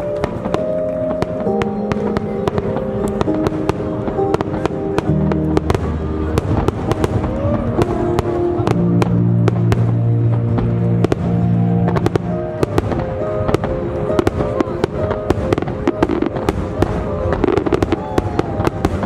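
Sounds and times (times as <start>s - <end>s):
fireworks bangs: 0.0s - 19.0s
music with long held notes: 0.0s - 19.0s.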